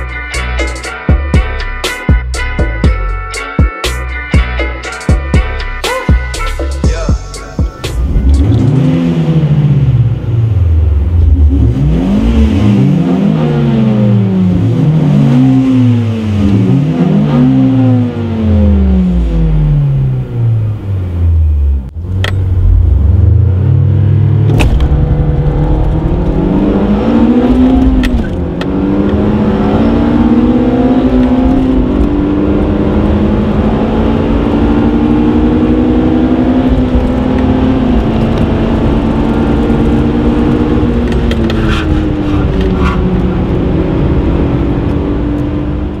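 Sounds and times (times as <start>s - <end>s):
car engine accelerating hard: 8.0s - 46.0s.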